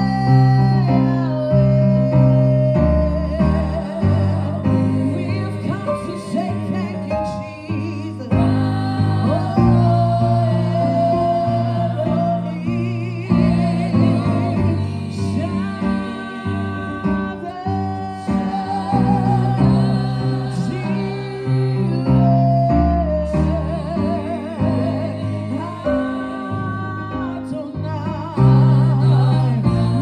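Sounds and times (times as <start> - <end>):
bass: 0.0 - 30.0
guitar: 0.0 - 30.0
held chords: 0.0 - 30.0
voices singing gospel song: 0.0 - 30.0.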